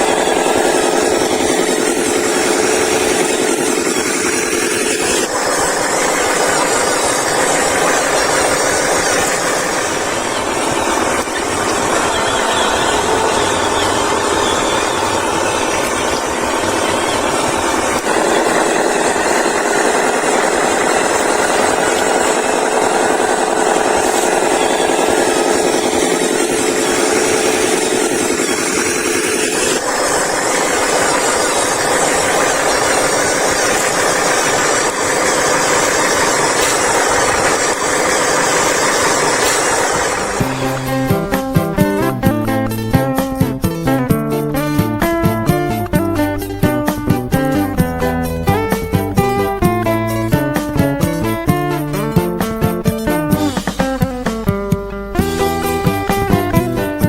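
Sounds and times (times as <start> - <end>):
toy vehicle motors whirring: 0.0 - 54.6.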